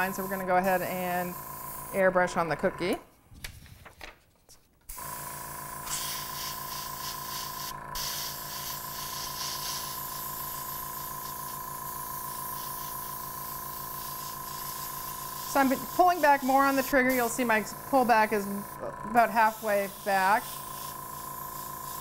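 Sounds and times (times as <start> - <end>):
airbrush spraying hiss: 0.0 - 2.1, 4.9 - 22.0
compressor motor hum: 0.0 - 3.0, 4.9 - 22.0.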